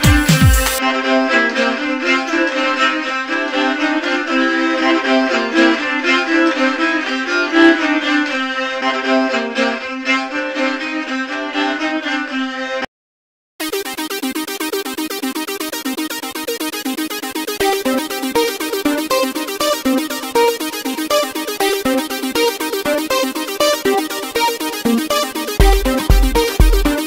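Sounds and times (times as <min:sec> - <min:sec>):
string melody background music: 0:00.0 - 0:12.9, 0:17.2 - 0:27.0.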